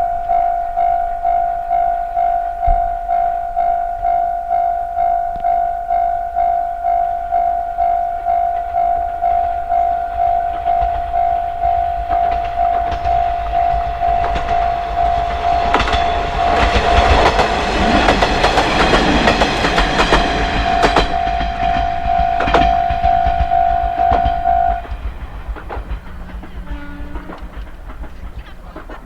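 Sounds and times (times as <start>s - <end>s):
level crossing alarm ringing: 0.0s - 29.0s
train wheels clacking on rails: 0.0s - 29.0s.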